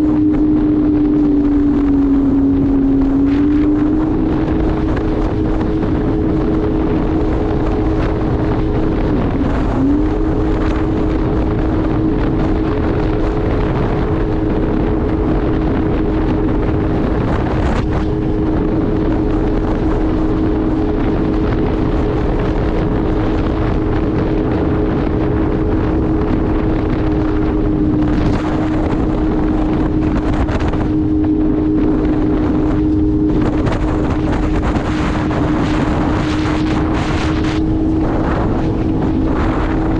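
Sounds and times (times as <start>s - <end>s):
jet ski engine running: 0.0s - 39.9s
wind buffeting microphone: 0.0s - 39.9s.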